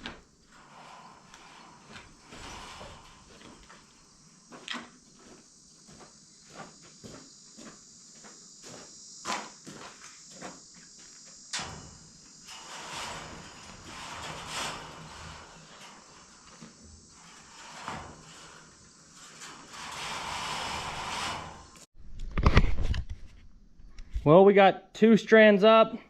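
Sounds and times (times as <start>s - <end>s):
insects chirping: 0.0s - 21.9s.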